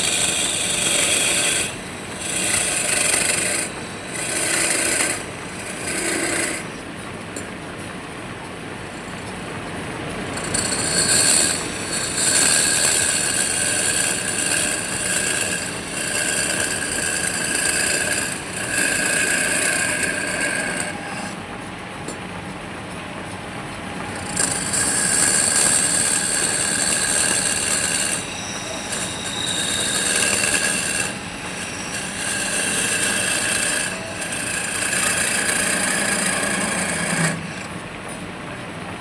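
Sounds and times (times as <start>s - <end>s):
woodworking machine cutting wood: 0.0s - 6.9s, 10.2s - 21.4s, 24.0s - 37.8s.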